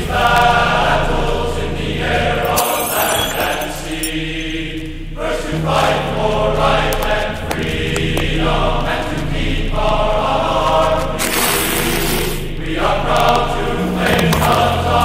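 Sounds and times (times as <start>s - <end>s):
choral music: 0.0s - 15.0s.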